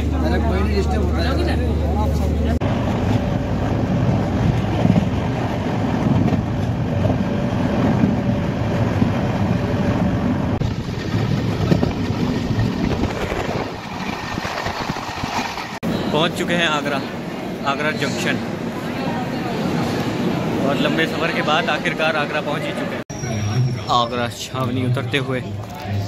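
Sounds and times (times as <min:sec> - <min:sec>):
moving train rumbling: 0:00.0 - 0:26.0.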